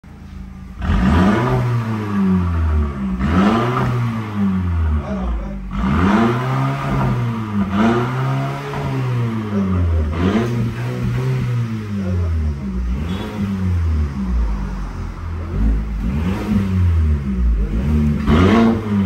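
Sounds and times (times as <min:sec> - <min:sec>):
engine revving up and down: 0:00.7 - 0:19.0.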